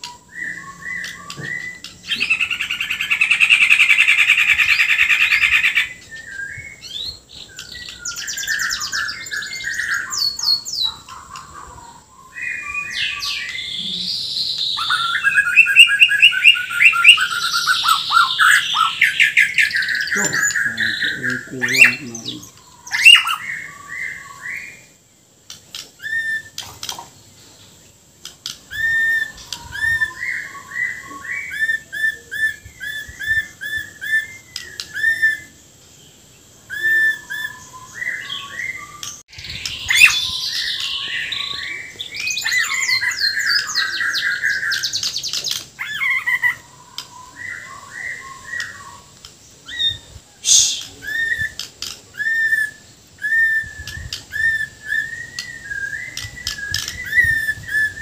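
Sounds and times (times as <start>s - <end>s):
bird singing whistled notes: 0.0s - 25.0s, 26.0s - 26.9s, 28.5s - 58.0s.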